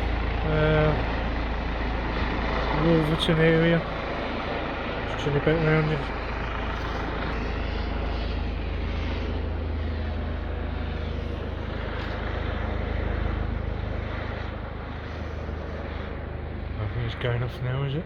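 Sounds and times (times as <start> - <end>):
helicopter rotor drone: 0.0 - 18.0.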